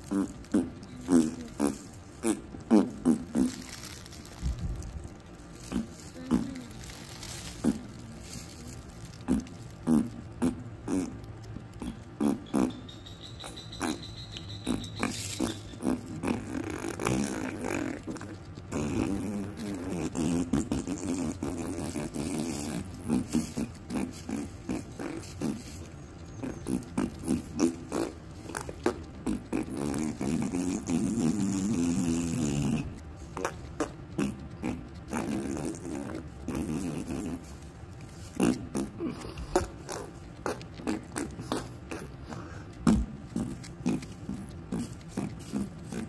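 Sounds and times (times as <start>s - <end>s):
fart-like rasping noises: 0.0s - 12.9s, 13.8s - 14.0s, 14.6s - 46.0s.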